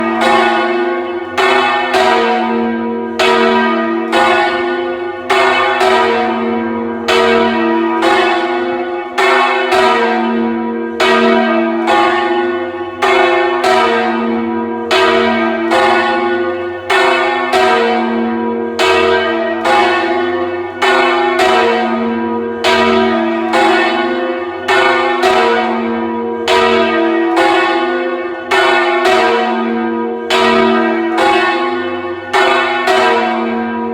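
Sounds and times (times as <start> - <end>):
church bells ringing: 0.0 - 33.9.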